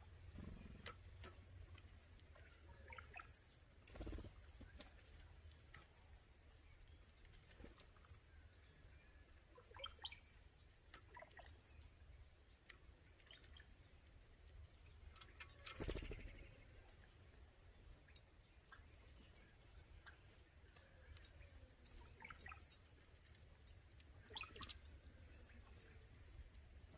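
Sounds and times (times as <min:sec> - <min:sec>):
birds chirping: 0:00.0 - 0:23.4, 0:24.0 - 0:26.9.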